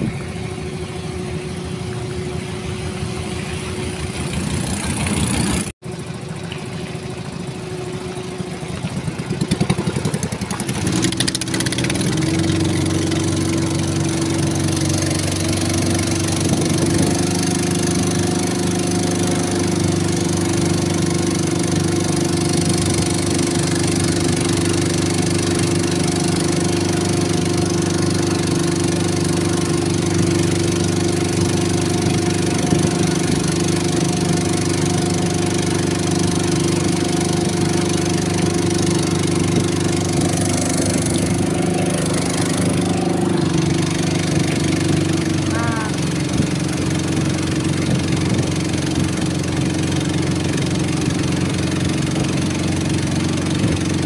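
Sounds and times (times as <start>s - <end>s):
boat motor running: 0.0s - 54.0s
water splashing along hull: 0.0s - 54.0s.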